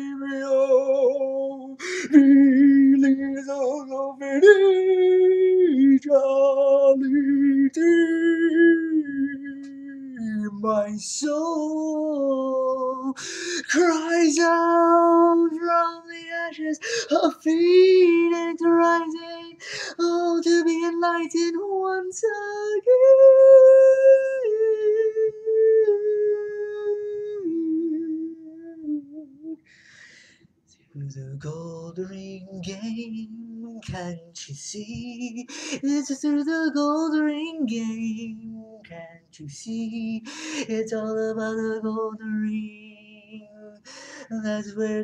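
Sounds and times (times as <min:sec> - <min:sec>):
man singing unaccompanied: 0:00.0 - 0:29.7, 0:31.0 - 0:45.0.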